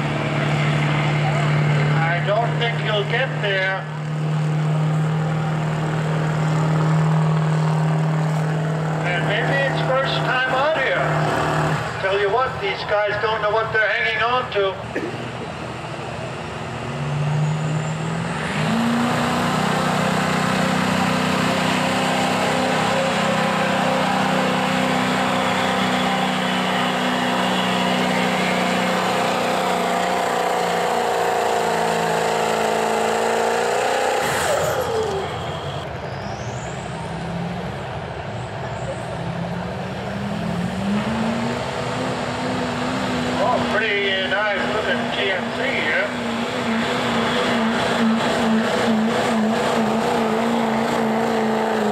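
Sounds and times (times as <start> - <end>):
diesel truck engine under load: 0.0 - 51.9
diesel truck revving: 0.0 - 51.9.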